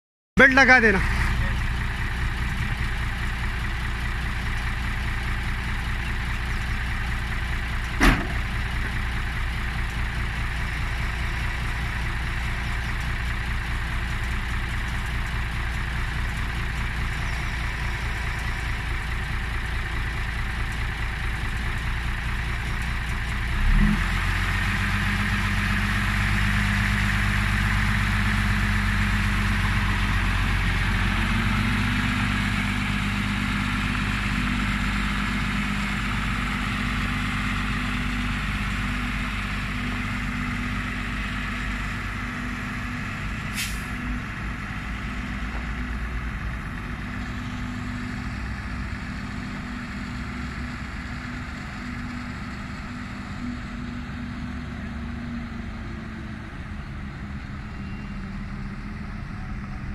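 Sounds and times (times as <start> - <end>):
heavy vehicle engine idling: 0.4 - 59.9.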